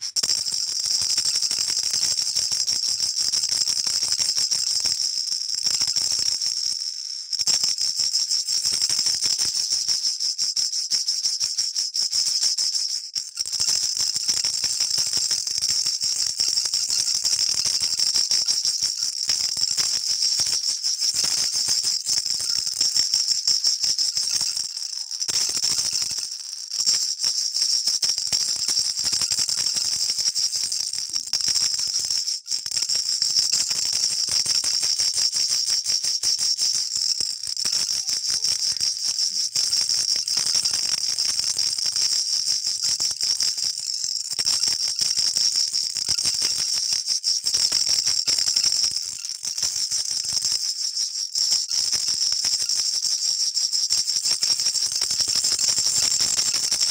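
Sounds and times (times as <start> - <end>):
baby rattle shaken: 0.0 - 7.5, 8.3 - 56.9.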